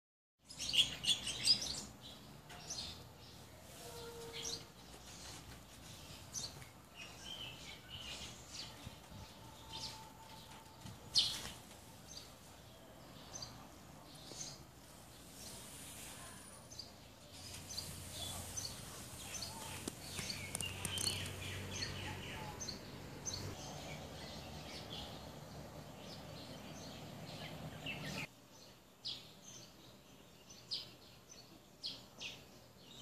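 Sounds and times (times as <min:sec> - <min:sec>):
birds chirping: 0:00.4 - 0:33.0.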